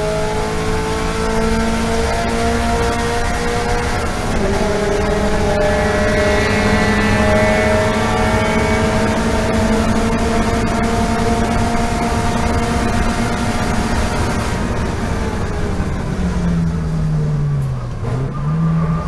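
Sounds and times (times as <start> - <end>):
race car engine at full throttle: 0.0 - 19.0
road and wind noise: 0.0 - 19.0.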